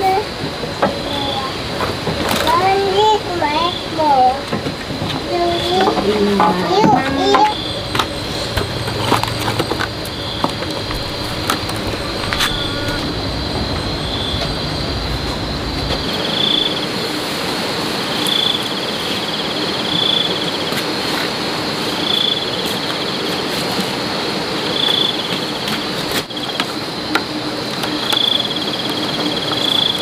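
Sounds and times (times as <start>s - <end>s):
background hiss: 0.0s - 30.0s
insects singing: 0.0s - 30.0s.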